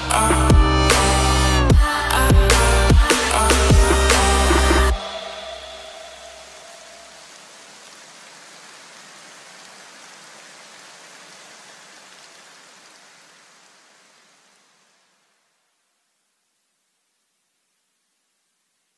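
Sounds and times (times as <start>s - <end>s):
rain-like hiss: 0.0s - 18.9s.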